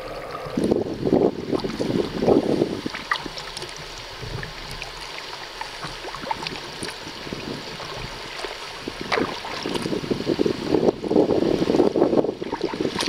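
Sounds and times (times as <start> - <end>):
choppy water noise: 0.0 - 13.0
water lapping and trickling: 0.0 - 13.0.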